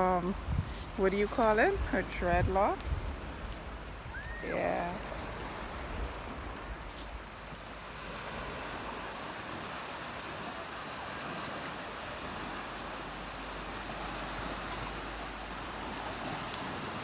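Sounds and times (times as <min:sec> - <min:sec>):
gentle waves washing on shore: 0:00.0 - 0:17.0
wind on microphone: 0:00.0 - 0:17.0.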